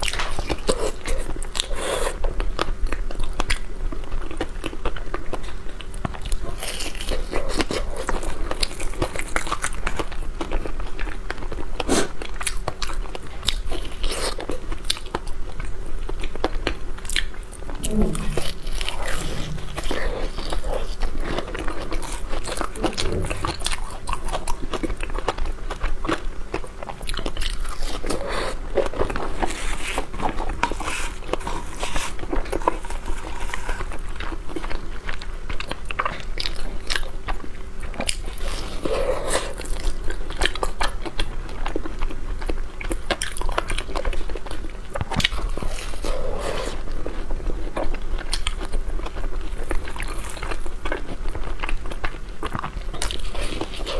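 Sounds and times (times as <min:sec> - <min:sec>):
biting and chewing: 0:00.0 - 0:53.9.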